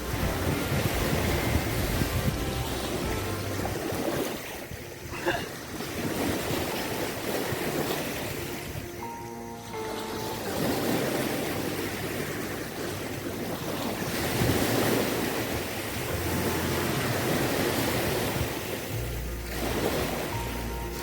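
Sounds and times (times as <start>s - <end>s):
sea waves breaking on beach: 0.0s - 21.0s
wind: 0.0s - 21.0s.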